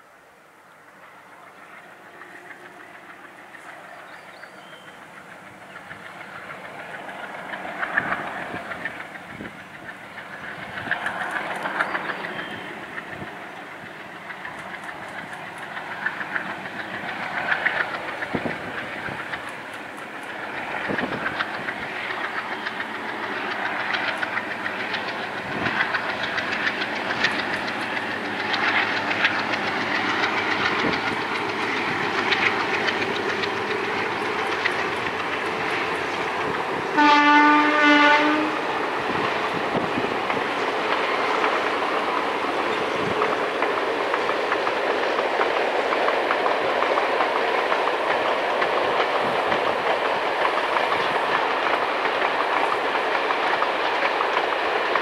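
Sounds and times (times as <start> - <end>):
diesel locomotive engine under load: 0.0 - 55.0.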